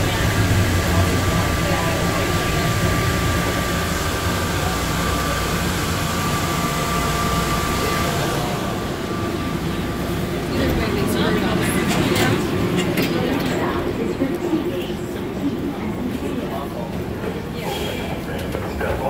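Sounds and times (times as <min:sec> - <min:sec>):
train car rumble and hiss: 0:00.0 - 0:19.0.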